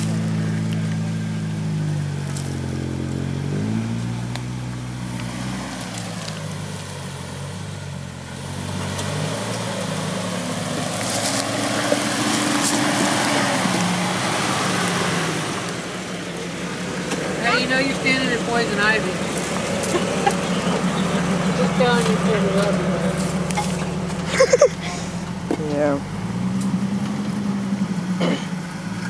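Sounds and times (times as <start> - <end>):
off-road vehicle engine: 0.0 - 29.0
tyres crunching on dirt: 0.0 - 29.0.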